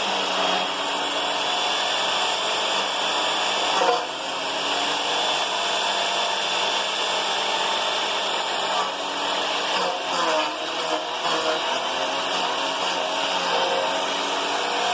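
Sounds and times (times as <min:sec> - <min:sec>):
angle grinder motor whining: 0:00.0 - 0:14.9.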